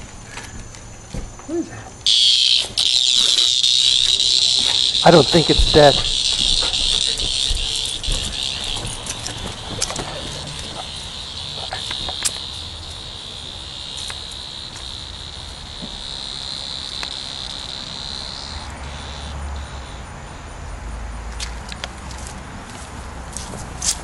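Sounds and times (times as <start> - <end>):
cicada buzzing: 0.0 - 21.2.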